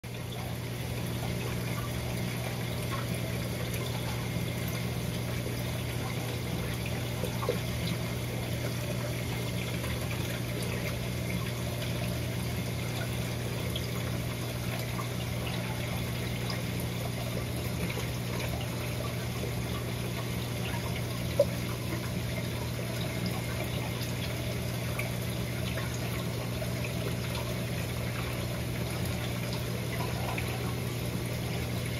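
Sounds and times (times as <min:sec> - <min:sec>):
low pump hum: 0:00.0 - 0:31.9.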